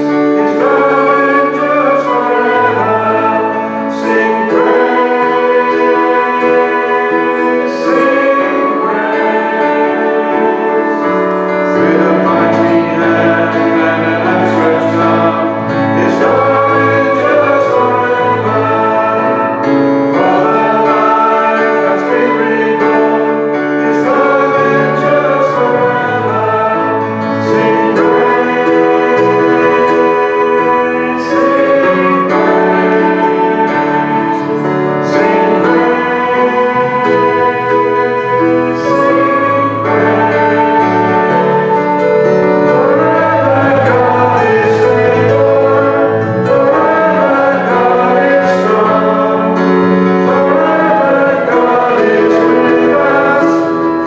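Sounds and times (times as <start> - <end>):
worship song with voices singing: 0.0 - 54.0.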